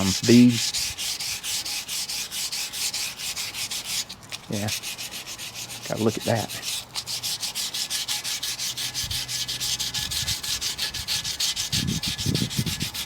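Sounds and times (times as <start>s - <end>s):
sandpaper rubbing on metal: 0.0s - 13.0s.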